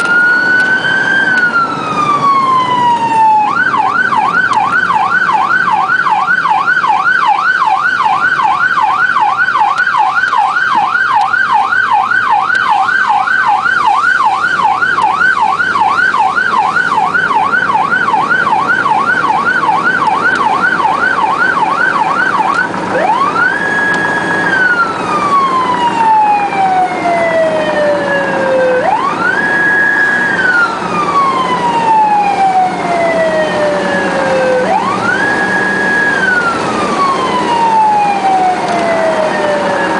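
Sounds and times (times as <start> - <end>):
siren yelp and wail: 0.0 - 39.9.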